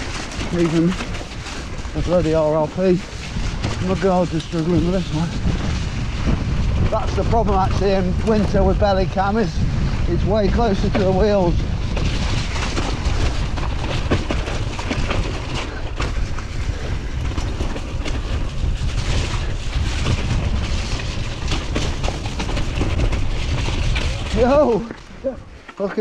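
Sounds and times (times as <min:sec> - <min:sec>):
bike rattling over bumps: 0:00.0 - 0:26.0
tyre noise on dirt: 0:00.0 - 0:26.0
wind rumbling on microphone: 0:00.0 - 0:26.0.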